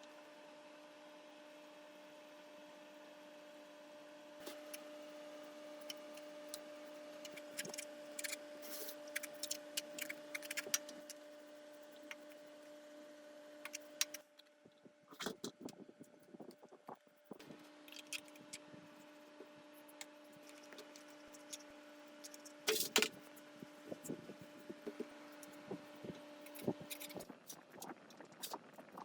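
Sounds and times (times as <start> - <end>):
steady hum: 4.4 - 29.0.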